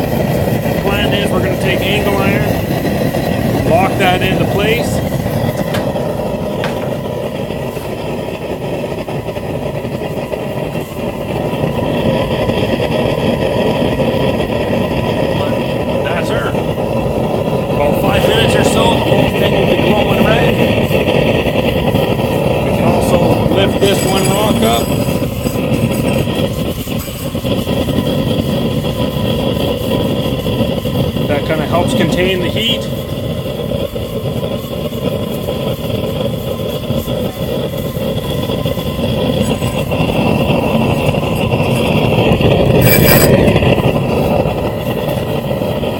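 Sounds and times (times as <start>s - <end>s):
forge burner flame rushing: 0.0s - 45.9s.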